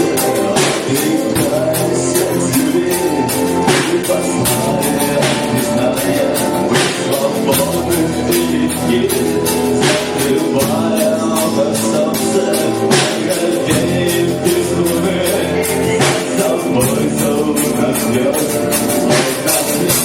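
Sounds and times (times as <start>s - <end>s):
drum and cymbal hits: 0.0s - 20.0s
guitar chords: 0.0s - 20.0s.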